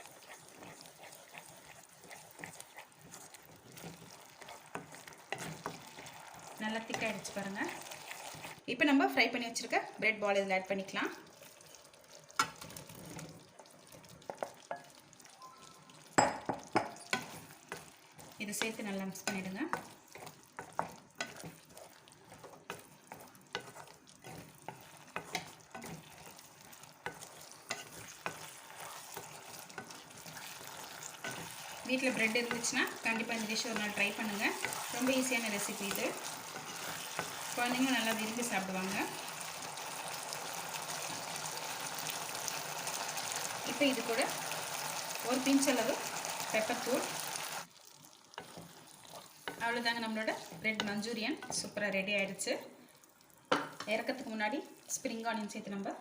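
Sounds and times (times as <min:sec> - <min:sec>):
spoon scraping a pan: 0:00.0 - 0:08.6, 0:11.4 - 0:47.6, 0:48.3 - 0:51.8
thick sauce bubbling and popping: 0:00.0 - 0:08.6, 0:11.1 - 0:51.6, 0:52.9 - 0:53.9.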